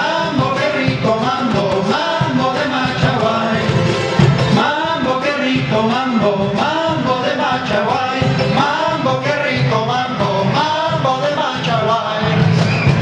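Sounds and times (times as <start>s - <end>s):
men singing into microphones: 0.0s - 13.0s
strummed strings: 0.0s - 13.0s.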